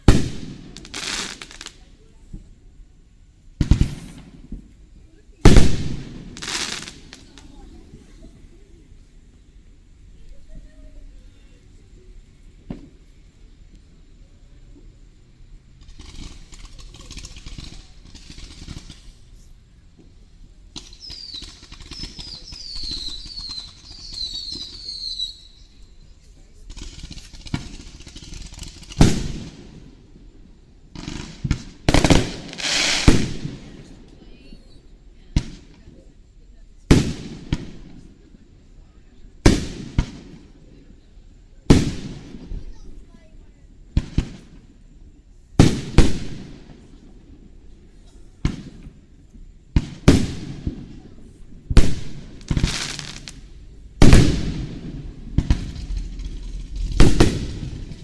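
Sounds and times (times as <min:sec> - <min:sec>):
fireworks bursting: 0:00.0 - 0:58.0
fireworks crackling: 0:00.0 - 0:58.0.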